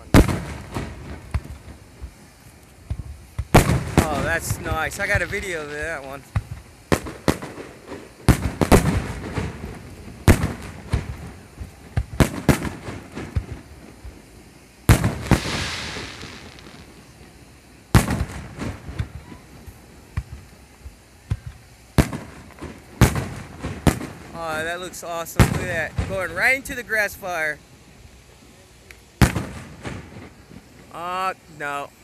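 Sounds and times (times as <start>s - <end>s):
fireworks shells bursting: 0.0s - 27.5s
fireworks crackling: 0.0s - 32.0s
long fizzing hiss: 0.0s - 32.0s.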